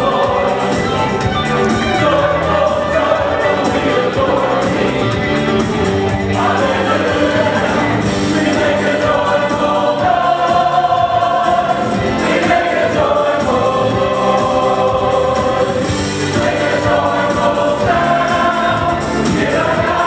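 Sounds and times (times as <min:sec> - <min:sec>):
mixed choir singing gospel: 0:00.0 - 0:20.0.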